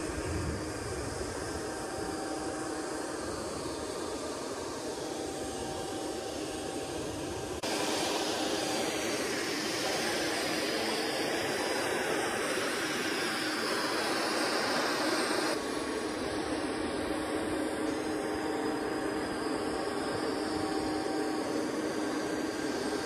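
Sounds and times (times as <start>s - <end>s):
jet turbine noise: 0.0s - 23.0s.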